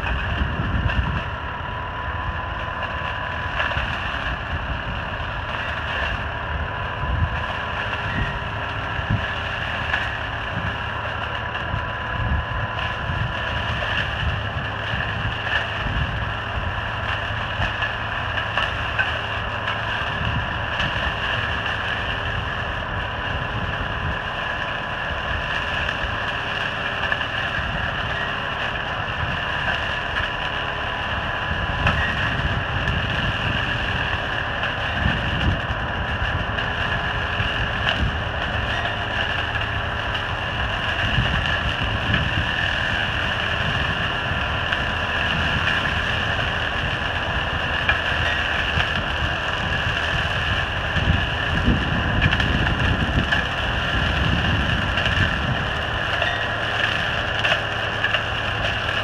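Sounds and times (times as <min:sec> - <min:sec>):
wind buffeting microphone: 0:00.0 - 0:57.4
hedge cutter whine: 0:00.0 - 0:59.0
tractor running: 0:00.0 - 0:59.0.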